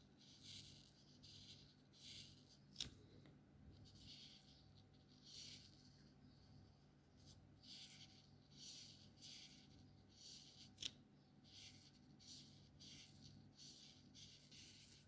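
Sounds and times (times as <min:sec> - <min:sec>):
marker scratching on paper: 0:00.0 - 0:02.9, 0:03.7 - 0:15.0.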